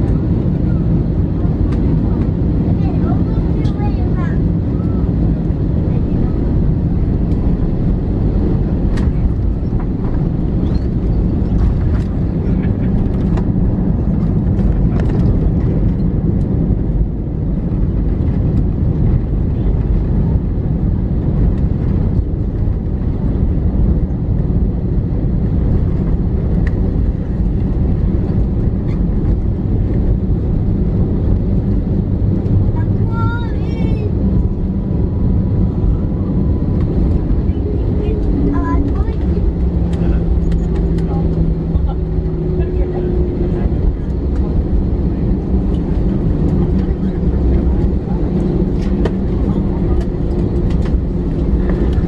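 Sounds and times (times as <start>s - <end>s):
low rumble of engines and wheels: 0.0s - 52.0s.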